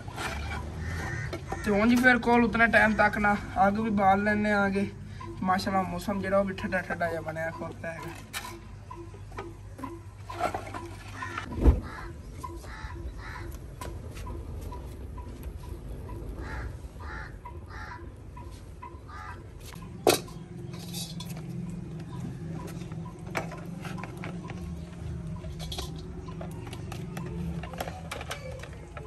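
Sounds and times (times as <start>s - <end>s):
bird calling: 0.0s - 3.6s, 4.6s - 29.0s.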